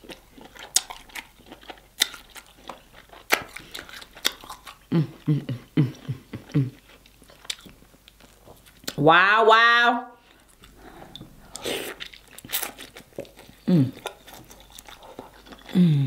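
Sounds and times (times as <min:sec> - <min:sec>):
chewing: 0:00.0 - 0:09.0, 0:10.2 - 0:16.0.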